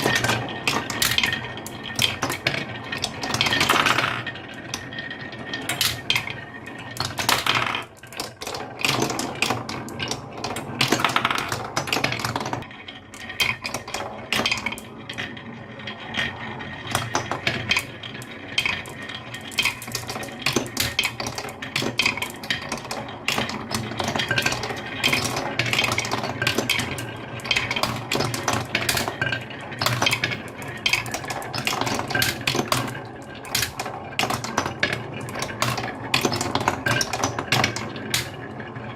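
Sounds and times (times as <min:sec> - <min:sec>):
marble clicks and knocks: 0:00.0 - 0:38.8
marbles rolling on wooden track: 0:00.0 - 0:38.9.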